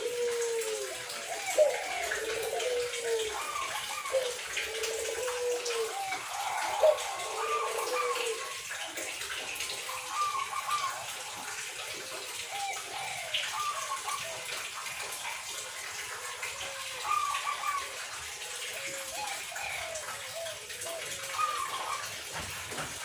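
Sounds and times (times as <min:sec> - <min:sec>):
dove cooing: 0:00.0 - 0:22.8.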